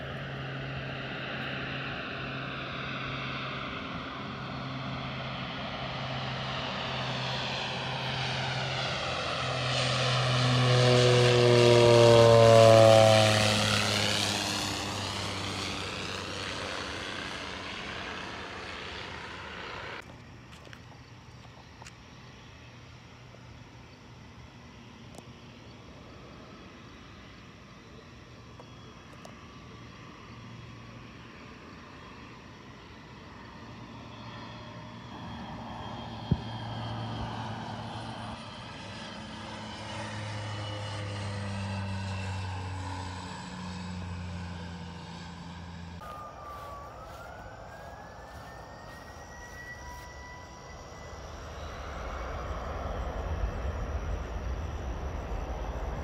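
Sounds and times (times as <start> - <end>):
aircraft passing overhead: 0.0 - 56.0
rising whine: 0.0 - 56.0.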